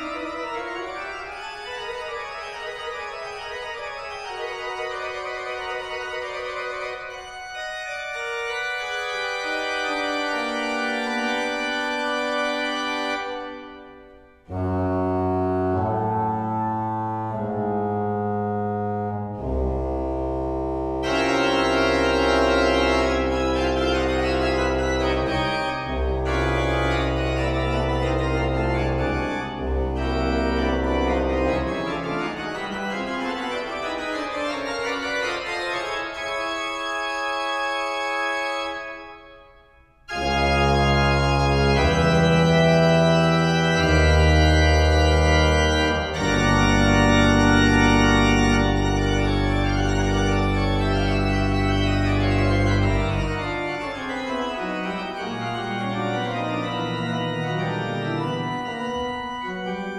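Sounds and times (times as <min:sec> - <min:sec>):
pipe organ chords: 0:00.0 - 0:59.9.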